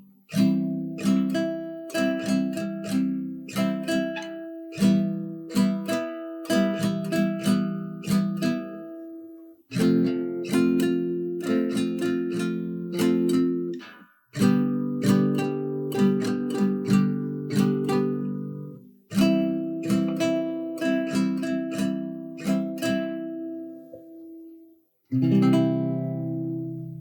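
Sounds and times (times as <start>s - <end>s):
strummed acoustic guitar chords: 0.0s - 9.0s, 9.7s - 24.0s, 25.1s - 27.0s.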